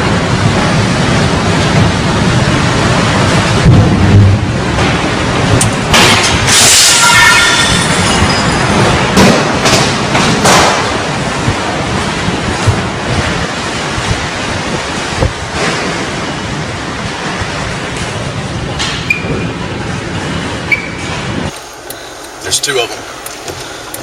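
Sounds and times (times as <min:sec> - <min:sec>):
strong wind buffeting microphone: 0:00.0 - 0:06.8, 0:07.6 - 0:21.6.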